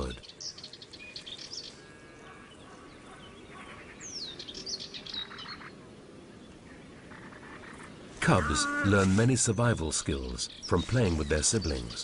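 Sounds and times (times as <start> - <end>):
faint background hiss: 0.0 - 12.0
wild birds chirping: 0.0 - 12.0.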